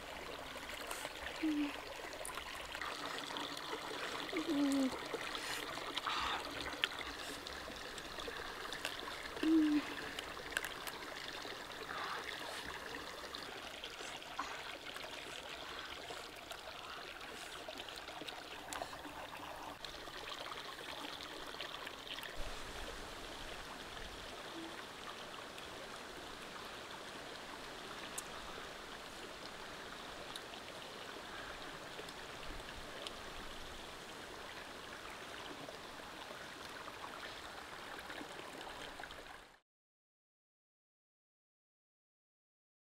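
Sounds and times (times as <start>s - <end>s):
stream trickling over rocks: 0.0s - 39.6s.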